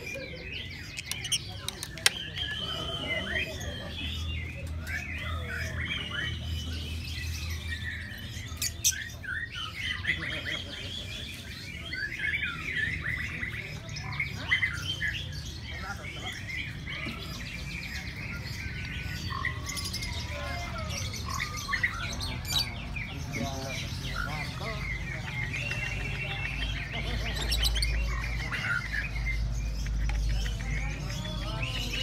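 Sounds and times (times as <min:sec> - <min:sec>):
lovebirds chirping and trilling: 0:00.0 - 0:32.0.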